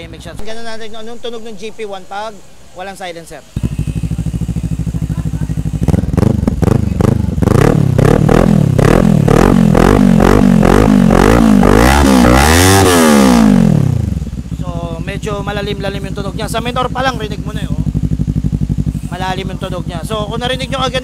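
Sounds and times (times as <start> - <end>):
motorcycle engine revving: 3.2 - 21.0.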